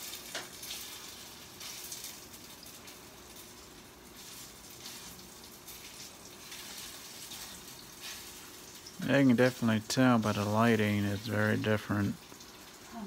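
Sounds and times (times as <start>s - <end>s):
meatballs sizzling in oil: 0.0s - 13.0s.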